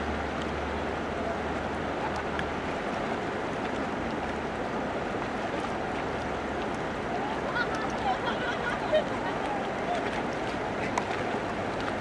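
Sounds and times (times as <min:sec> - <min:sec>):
river water rushing in rapids: 0:00.0 - 0:12.0.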